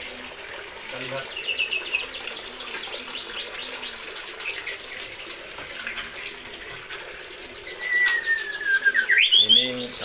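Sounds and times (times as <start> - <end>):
small birds chirping: 0.6 - 5.3, 6.0 - 10.0.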